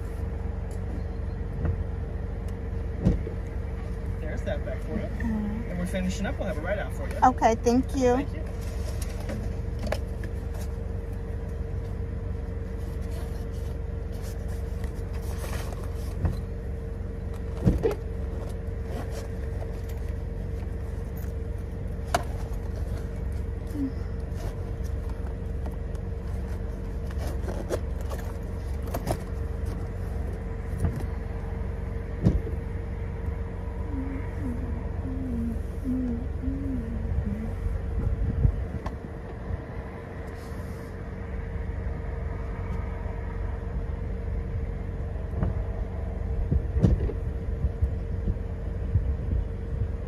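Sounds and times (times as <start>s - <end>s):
car idling from inside: 0.0s - 50.0s.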